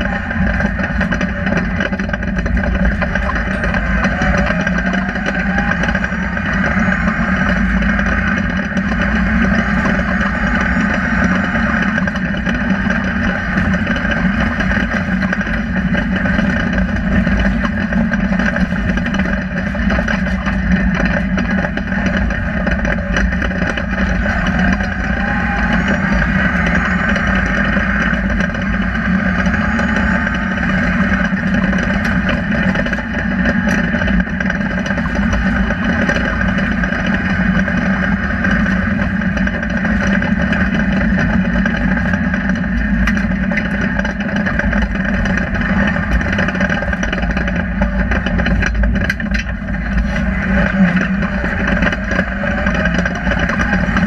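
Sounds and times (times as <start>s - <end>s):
rally car engine running hard: 0.0s - 54.0s
road and drivetrain rumble: 0.0s - 54.0s.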